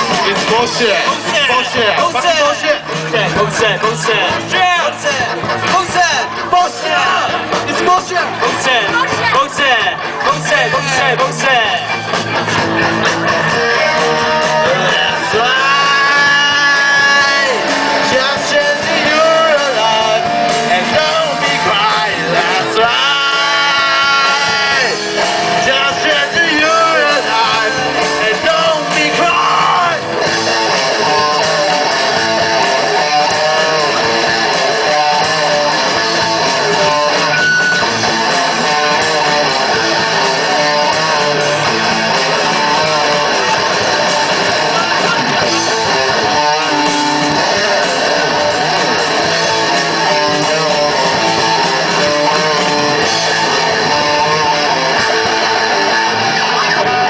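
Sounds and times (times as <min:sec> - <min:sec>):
rock band with strummed guitar: 0:00.0 - 0:57.0.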